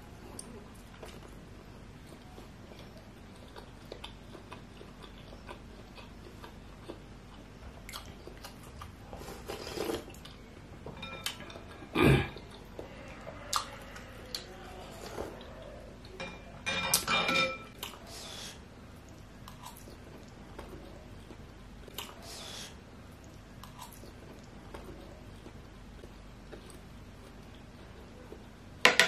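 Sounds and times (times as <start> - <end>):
person chewing with wet mouth sounds: 0.2 - 10.5, 11.2 - 16.2, 17.7 - 28.6.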